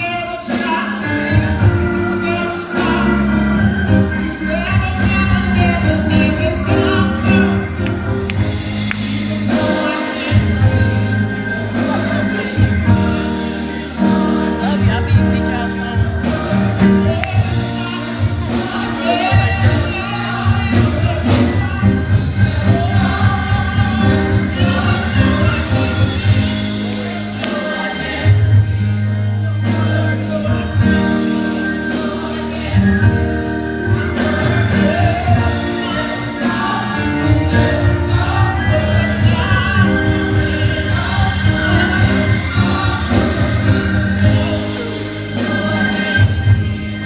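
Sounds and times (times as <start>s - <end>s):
gospel choir singing: 0.0s - 47.0s
music with steady beat: 0.0s - 47.0s.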